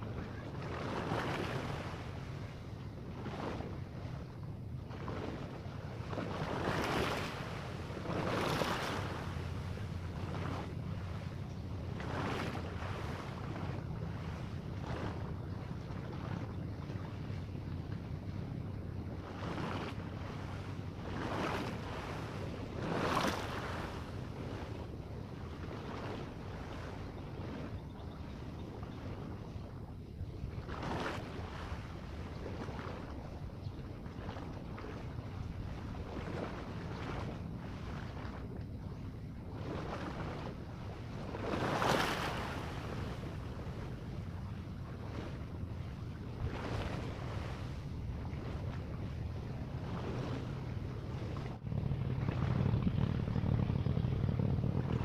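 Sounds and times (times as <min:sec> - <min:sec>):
small waves washing onto beach: 0:00.0 - 0:55.0
wind rumble on microphone: 0:00.0 - 0:55.0.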